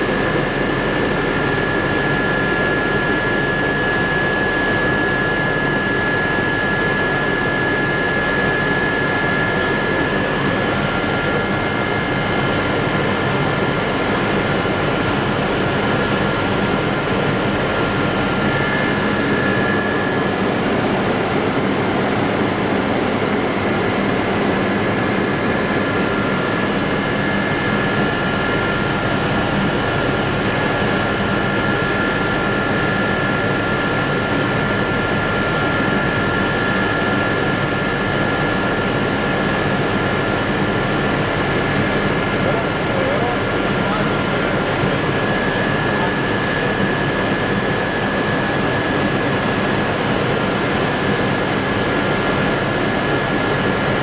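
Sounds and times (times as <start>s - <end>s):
helicopter engine and rotor roar: 0.0s - 54.0s.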